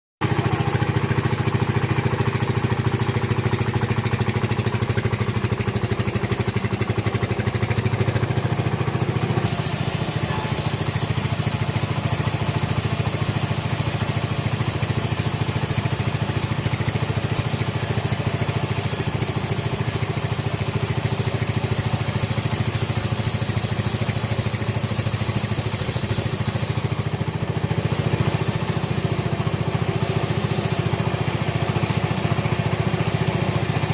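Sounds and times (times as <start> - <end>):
saw cutting into log: 0.2 - 33.9
sawmill engine droning: 0.2 - 33.9.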